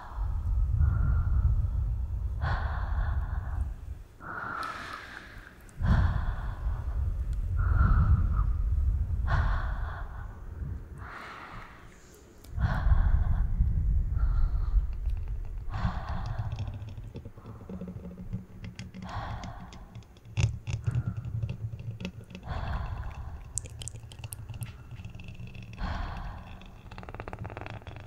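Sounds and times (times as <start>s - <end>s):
woman breathing heavily: 0.0s - 27.8s
low rumble: 0.0s - 28.0s.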